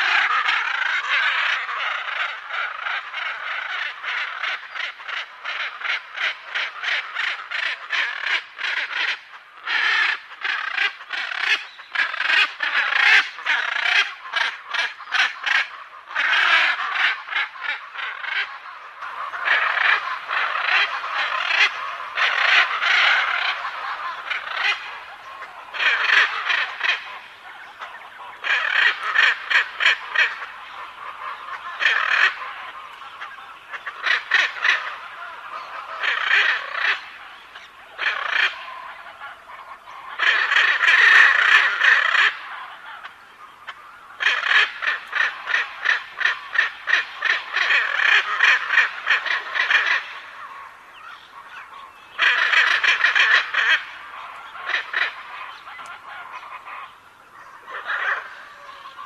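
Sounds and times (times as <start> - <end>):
macaws squawking: 0.0 - 59.0.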